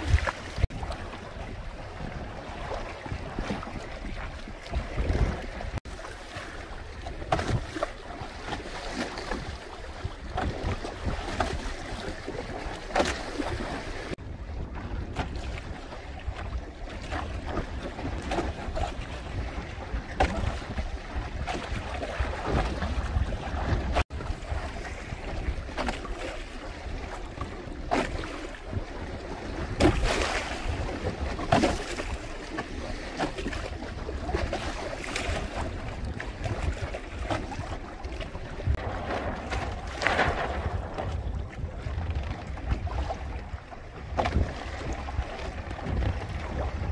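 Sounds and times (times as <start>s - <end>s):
water splashing against hull: 0.0s - 46.9s
wind buffeting microphone: 0.0s - 46.9s.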